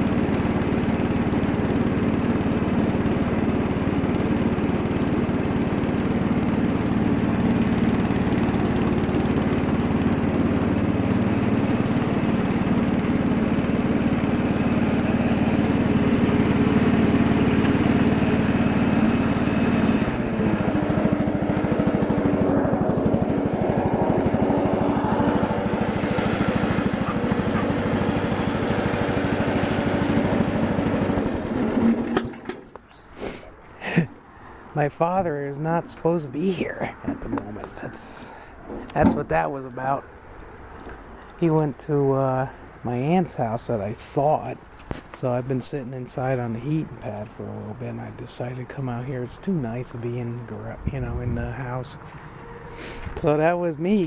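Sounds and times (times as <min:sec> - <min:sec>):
garden tractor engine running: 0:00.0 - 0:40.0, 0:40.6 - 0:54.0.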